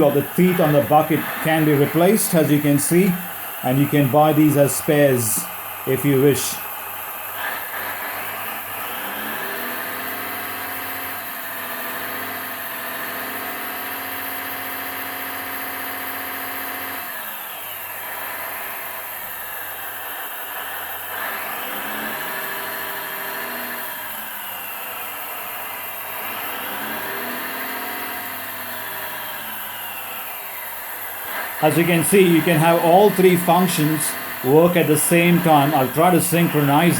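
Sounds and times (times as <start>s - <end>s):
model excavator engine and hydraulic pump: 0.0s - 36.9s.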